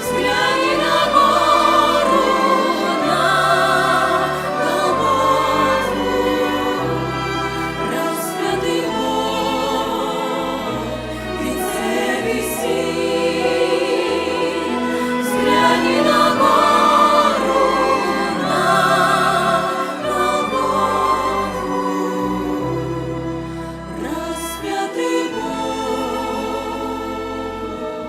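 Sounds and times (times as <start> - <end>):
choir singing a hymn: 0.0 - 28.0
sustained low accompaniment notes: 0.0 - 28.0.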